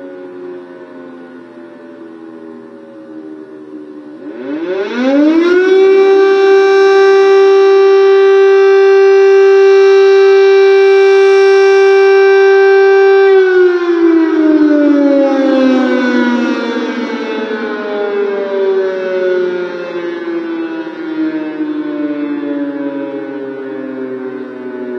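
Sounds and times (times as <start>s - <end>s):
air-raid siren wailing: 0.0s - 24.9s.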